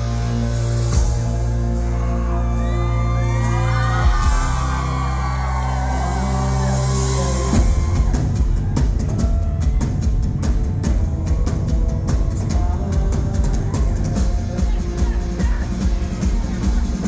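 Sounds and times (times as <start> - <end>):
drums driving a beat: 0.0 - 17.0
live rock band playing: 0.0 - 17.0
person singing: 0.0 - 17.0.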